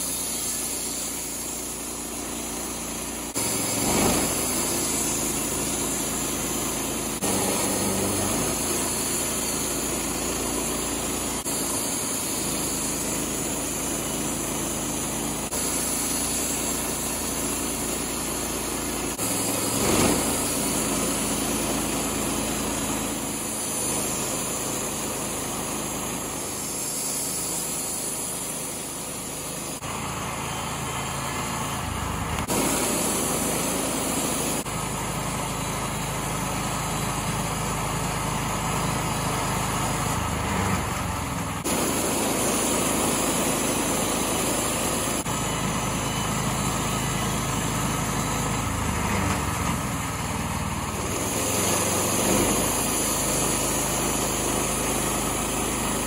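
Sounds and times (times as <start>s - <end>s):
band saw blade cutting log: 0.0s - 29.8s, 32.4s - 34.7s, 40.4s - 50.0s, 51.0s - 56.0s
sawmill gas engine running: 0.0s - 56.0s.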